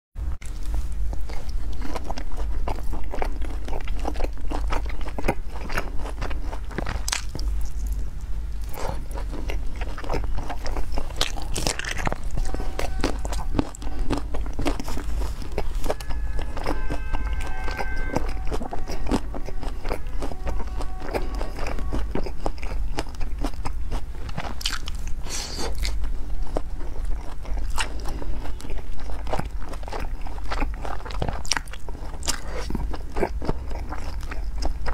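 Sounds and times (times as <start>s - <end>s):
low steady hum: 0.2s - 34.9s
biting and chewing food: 0.4s - 34.9s.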